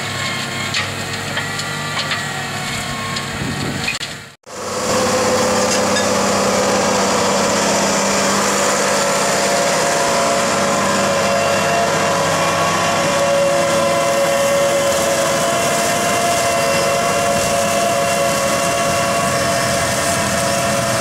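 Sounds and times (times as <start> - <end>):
tractor engine running under load: 0.0 - 21.0.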